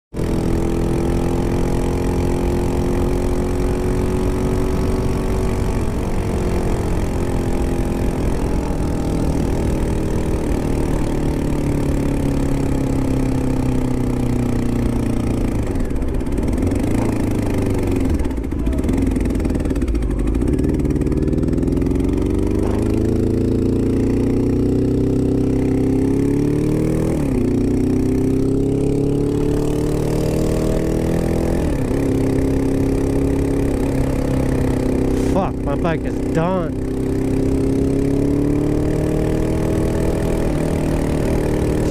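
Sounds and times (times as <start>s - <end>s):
motorcycle engine running: 0.1s - 41.9s.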